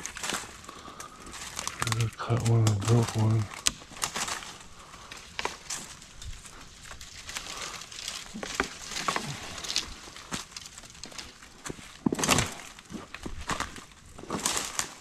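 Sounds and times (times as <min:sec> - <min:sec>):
footsteps crunching through dry leaves: 0:00.0 - 0:15.0
twigs crackling and snapping: 0:00.0 - 0:15.0.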